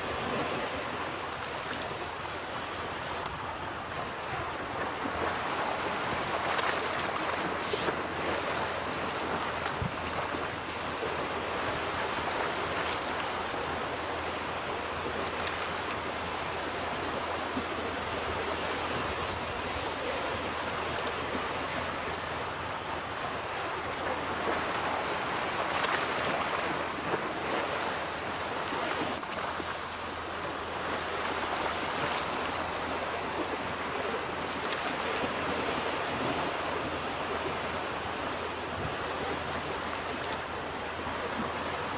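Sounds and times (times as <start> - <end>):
ocean waves breaking on beach: 0.0 - 41.9.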